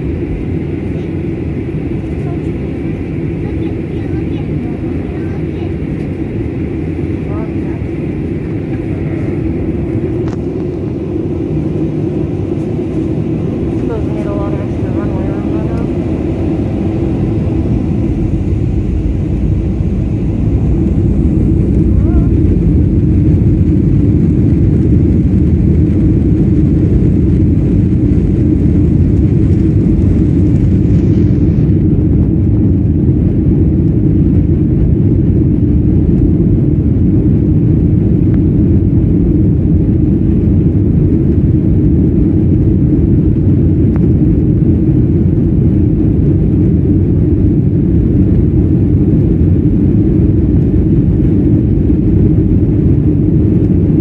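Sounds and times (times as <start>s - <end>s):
aircraft cabin low rumble: 0.0s - 54.0s.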